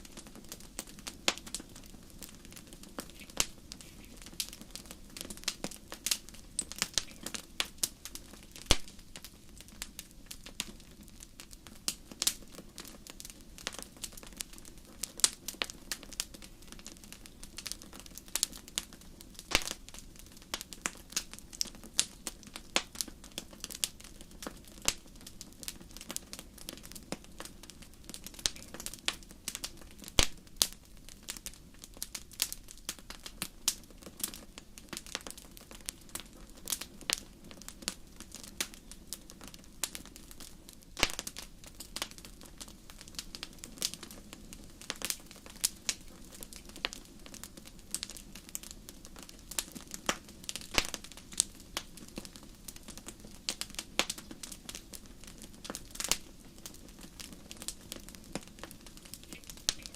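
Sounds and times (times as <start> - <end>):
fire crackling and popping: 0.0 - 59.9
low fire rumble: 0.0 - 59.9.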